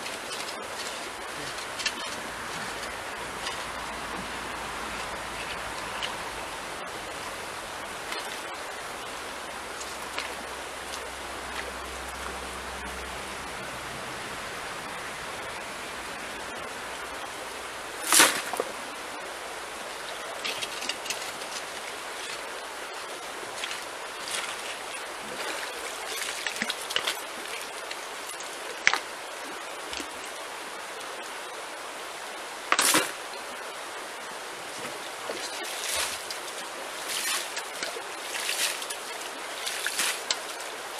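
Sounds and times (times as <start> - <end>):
creek running over stones: 0.0 - 40.9.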